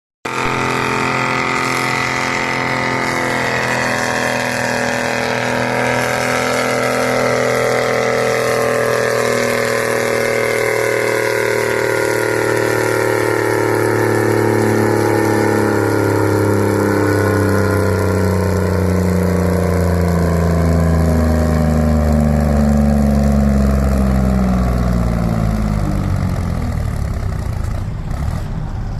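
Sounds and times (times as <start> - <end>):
tractor engine at high revs: 0.2 - 28.9.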